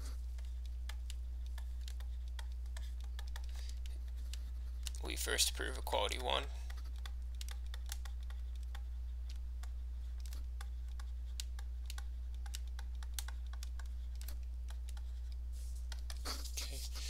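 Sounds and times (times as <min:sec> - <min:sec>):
low electrical hum: 0:00.0 - 0:17.0
stylus tapping on tablet screen: 0:00.4 - 0:04.4, 0:06.6 - 0:16.3.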